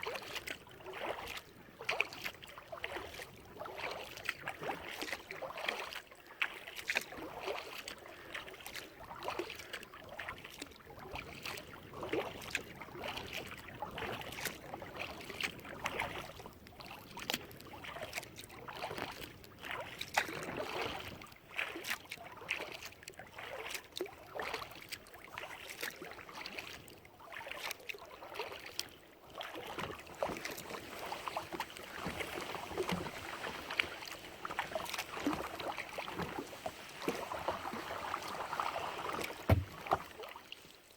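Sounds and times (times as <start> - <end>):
paddle splashing water: 0.0 - 40.9.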